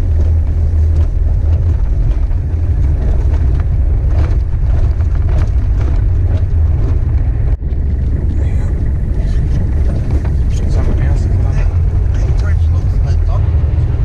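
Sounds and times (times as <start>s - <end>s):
engine and tyres rumbling: 0.0s - 14.0s
gravel ticks: 0.0s - 14.0s.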